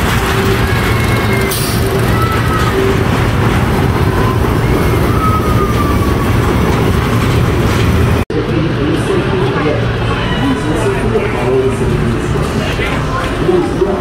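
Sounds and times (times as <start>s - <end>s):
roller coaster rumbling on track: 0.0s - 14.0s.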